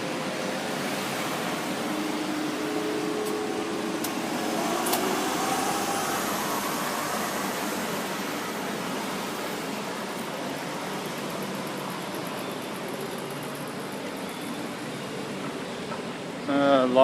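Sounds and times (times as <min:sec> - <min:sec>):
cars driving past: 0:00.0 - 0:16.2.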